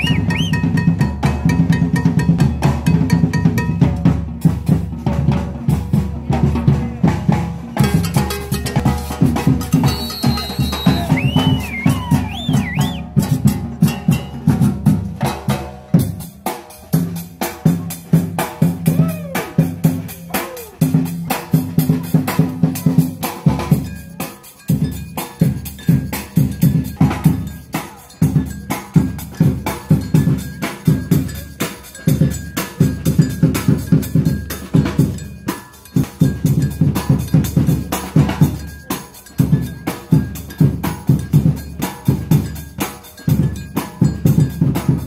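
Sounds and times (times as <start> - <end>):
marching drums: 0.0 - 45.0.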